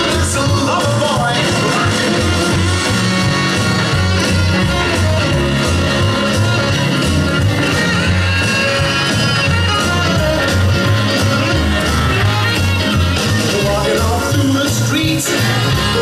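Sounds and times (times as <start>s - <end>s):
upbeat dance music with guitar: 0.0s - 16.0s.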